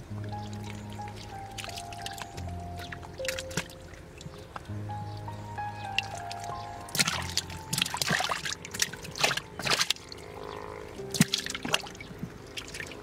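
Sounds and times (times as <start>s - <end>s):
water splashing: 0.0s - 4.8s, 5.6s - 13.0s
music with long held notes: 0.0s - 12.6s.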